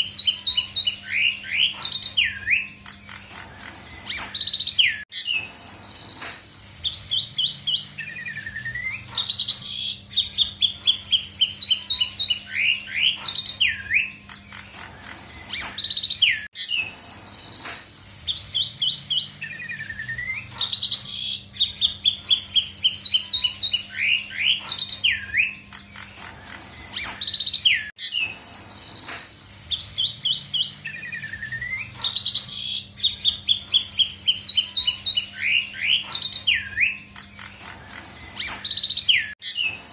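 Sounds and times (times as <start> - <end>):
starling singing whistles: 0.0 - 39.9.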